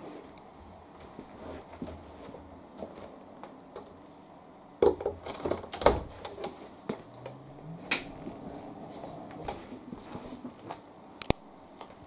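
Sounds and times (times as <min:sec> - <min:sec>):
laundry handling noise: 0:00.0 - 0:04.1, 0:04.8 - 0:12.0.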